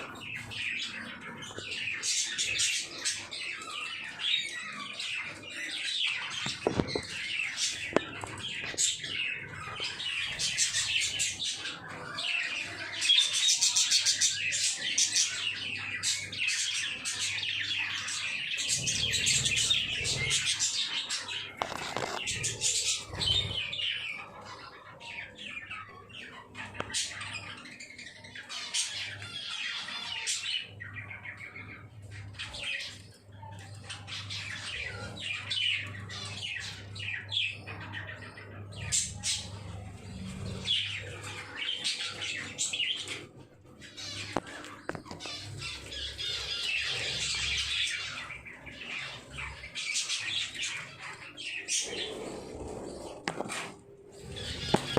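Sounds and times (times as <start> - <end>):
lovebirds chirping and squawking: 0.0 - 54.9.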